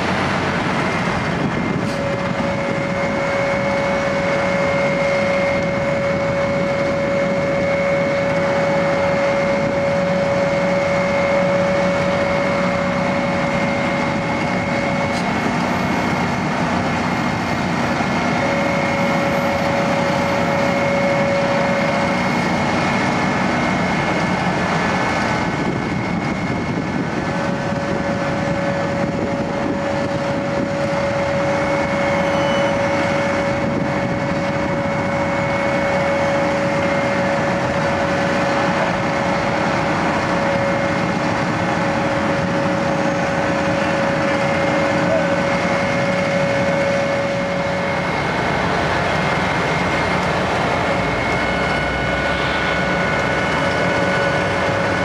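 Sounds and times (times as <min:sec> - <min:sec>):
constant machine whine: 0:00.0 - 0:55.0
diesel paving machine running: 0:00.0 - 0:55.0.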